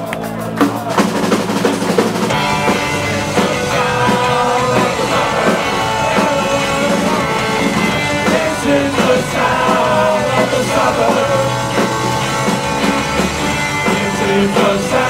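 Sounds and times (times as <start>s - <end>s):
live punk rock band: 0.0s - 15.0s.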